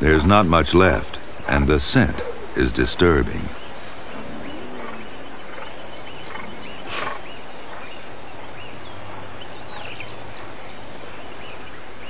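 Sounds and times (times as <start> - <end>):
chirping bird calls: 0.0 - 12.0
steady outdoor hiss: 0.0 - 12.0.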